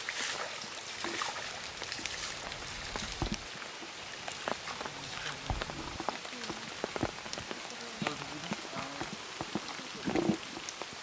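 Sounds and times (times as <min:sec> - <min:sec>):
light rain on pond: 0:00.0 - 0:11.0
water drips and plops: 0:00.0 - 0:11.0.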